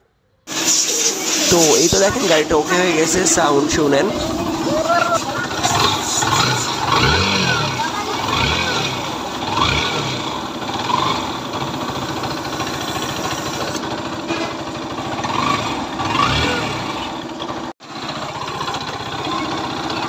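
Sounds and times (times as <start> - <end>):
motorcycle engine idling: 1.9 - 20.0.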